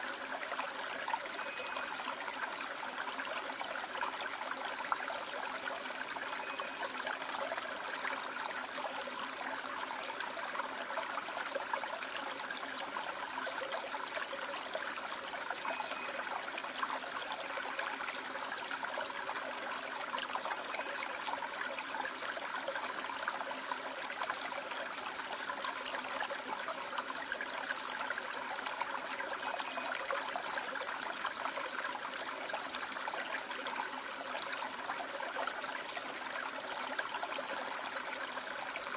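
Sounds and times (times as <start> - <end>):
stream water running over rocks: 0.0 - 38.9.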